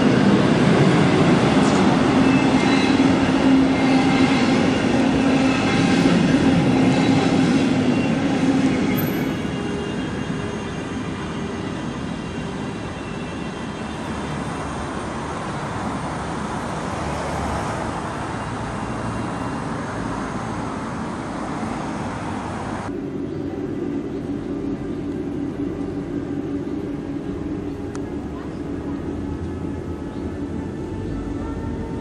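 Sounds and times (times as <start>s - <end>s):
road traffic noise: 0.0s - 32.0s
train rumbling over bridge: 0.0s - 32.0s.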